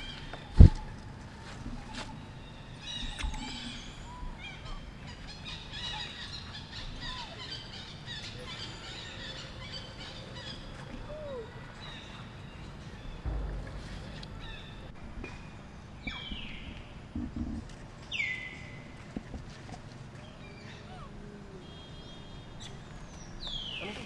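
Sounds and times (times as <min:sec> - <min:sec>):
birds chirping and twittering: 0:00.0 - 0:24.0
low arching bird calls: 0:01.8 - 0:19.0, 0:20.2 - 0:24.0.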